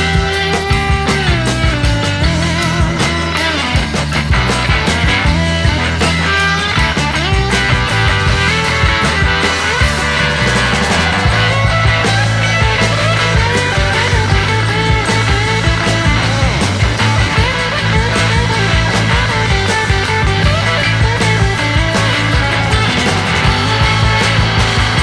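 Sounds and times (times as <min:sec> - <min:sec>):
rock music with guitar: 0:00.0 - 0:25.0.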